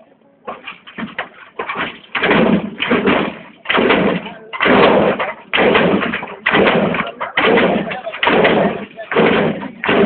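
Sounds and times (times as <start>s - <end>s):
hydraulic pumps firing: 0.5s - 10.0s.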